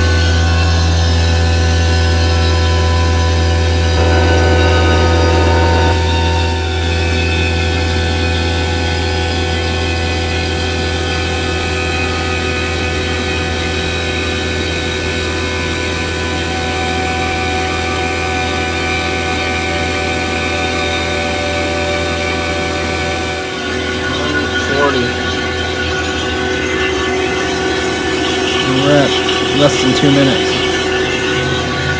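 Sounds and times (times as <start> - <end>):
vacuum pump humming: 0.0 - 31.9.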